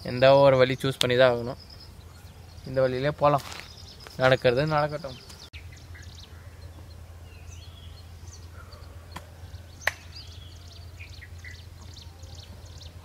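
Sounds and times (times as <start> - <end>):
low steady hum: 0.0 - 13.0
wild birds chirping: 0.0 - 13.0.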